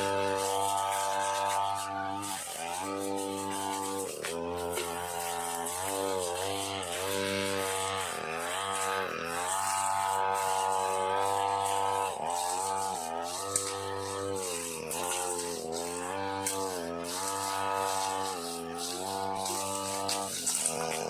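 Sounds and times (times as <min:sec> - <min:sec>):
brush cutter engine cutting weeds: 0:00.0 - 0:21.0.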